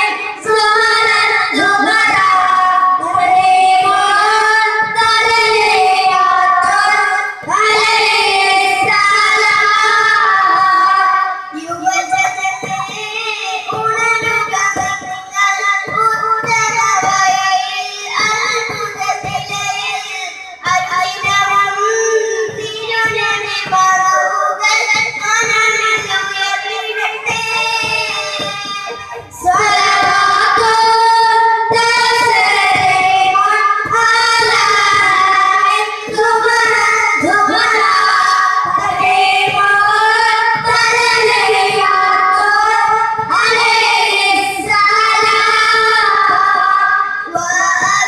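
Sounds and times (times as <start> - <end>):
boys singing over pa: 0.0 - 48.0.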